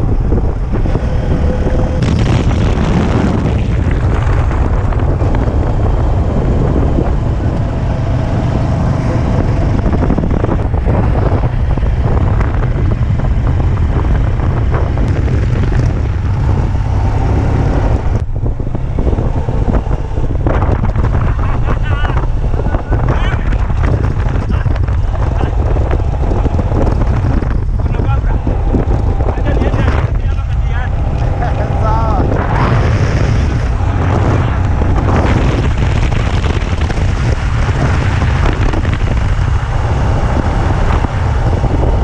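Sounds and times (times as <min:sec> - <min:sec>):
moving vehicle road noise: 0:00.0 - 0:42.0
wind buffeting microphone: 0:00.0 - 0:42.0.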